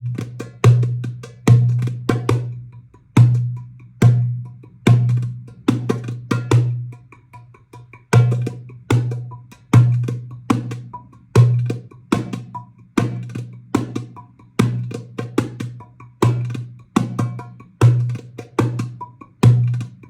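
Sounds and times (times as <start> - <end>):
hand drum beats: 0.0 - 20.0.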